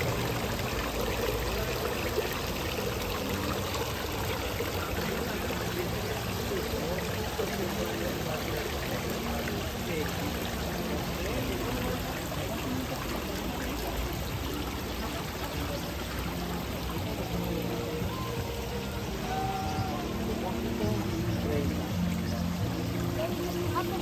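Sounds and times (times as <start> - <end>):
murmur of voices: 0.0 - 24.0
water running and splashing: 0.0 - 24.0.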